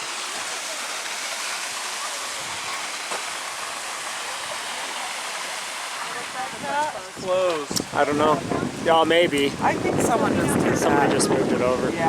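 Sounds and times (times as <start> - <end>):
hiss of falling water: 0.0 - 12.0.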